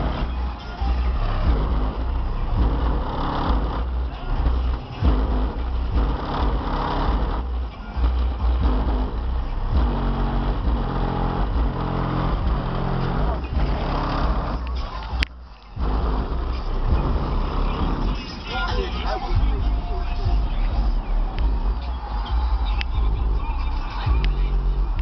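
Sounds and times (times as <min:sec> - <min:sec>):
bass-heavy music from car subwoofers: 0:00.0 - 0:25.0.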